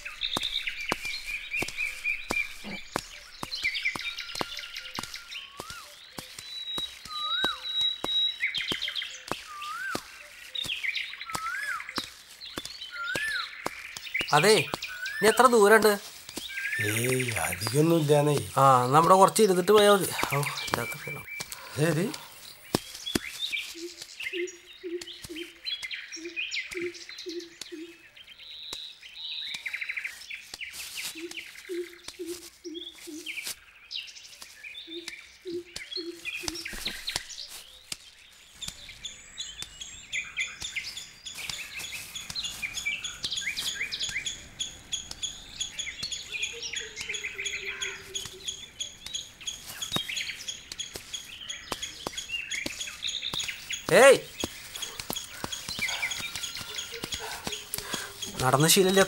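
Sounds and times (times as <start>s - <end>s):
bird chirps and trills: 0.0s - 59.0s.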